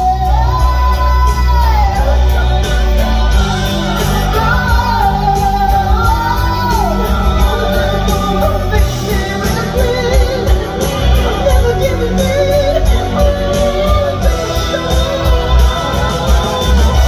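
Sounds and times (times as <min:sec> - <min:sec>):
heavy bass: 0:00.0 - 0:17.0
song with gliding sung melody: 0:00.0 - 0:17.0.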